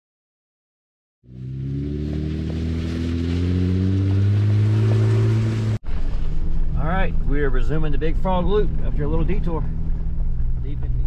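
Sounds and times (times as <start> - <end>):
car engine accelerating: 1.3 - 11.0.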